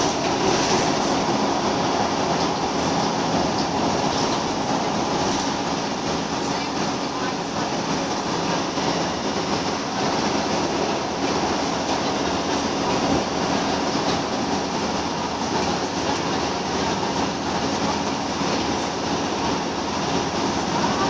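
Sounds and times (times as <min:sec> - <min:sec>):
bus diesel engine running: 0:00.0 - 0:21.0
road and tyre noise: 0:00.0 - 0:21.0.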